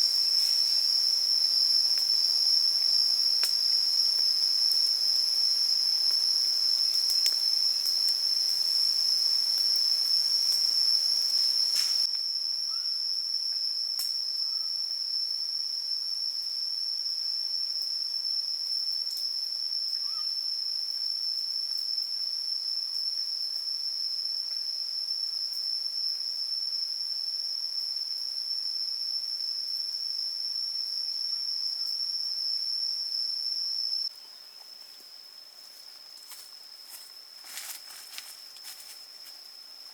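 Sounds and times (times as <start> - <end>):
insects droning high-pitched: 0.0 - 39.9.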